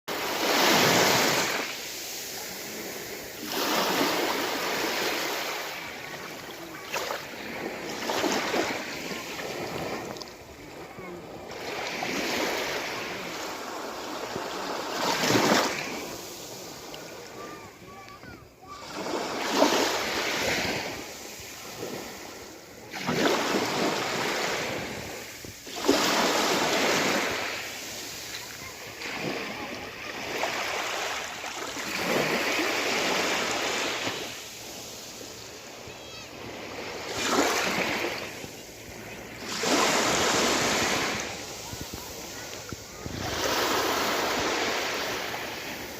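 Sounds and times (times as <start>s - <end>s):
sea waves breaking on shore: 0.1s - 45.9s.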